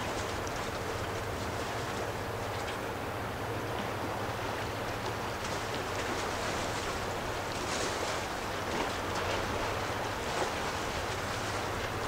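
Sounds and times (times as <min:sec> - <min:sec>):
choppy river water: 0:00.0 - 0:12.0
low steady hum: 0:00.0 - 0:12.0
wind: 0:00.0 - 0:12.0.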